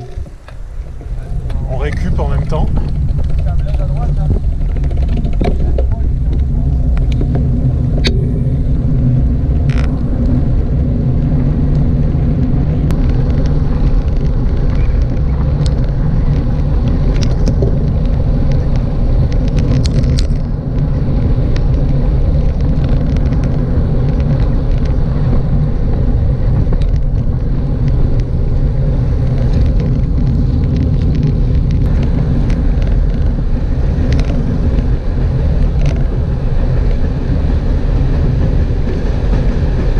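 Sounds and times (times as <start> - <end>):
bike clicks and knocks: 0.0 - 10.5, 11.7 - 39.9
wind and tyre rumble: 0.0 - 39.9.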